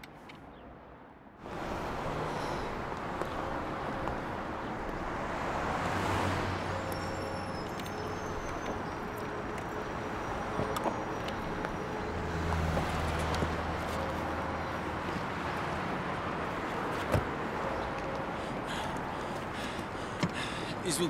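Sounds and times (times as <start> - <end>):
hum of cars: 0.0 - 21.0.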